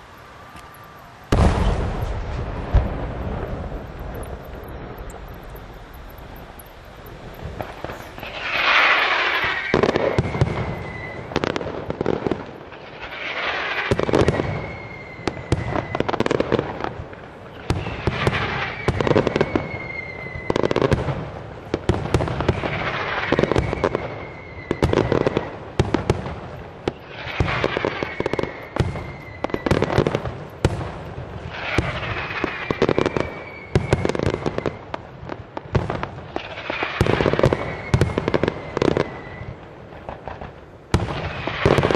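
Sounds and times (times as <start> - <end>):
firework launch whistle: 0.0 - 12.1, 12.7 - 16.6, 17.5 - 21.1, 22.5 - 26.2, 26.8 - 30.8, 31.5 - 35.0, 36.4 - 39.7
firework bangs and crackling: 0.0 - 41.9.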